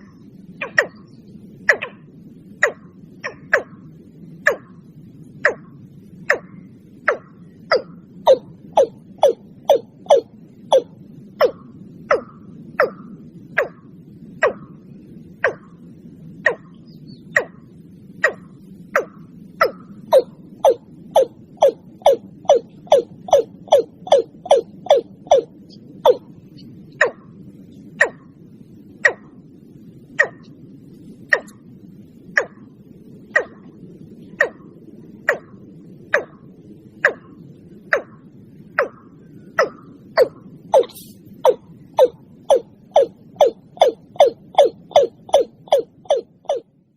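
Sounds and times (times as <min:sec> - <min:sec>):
bird calling with rising notes: 0:00.0 - 0:14.8, 0:15.4 - 0:46.8
faint low hum: 0:00.0 - 0:46.9
steady low hiss: 0:00.0 - 0:46.9.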